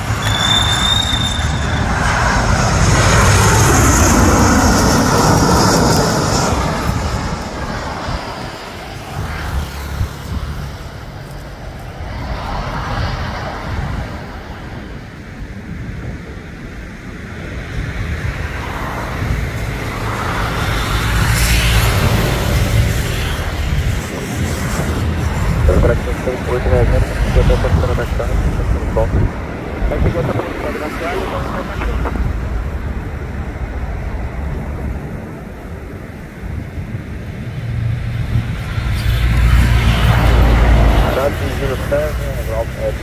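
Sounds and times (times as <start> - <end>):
jet engines roaring overhead: 0.0 - 43.0.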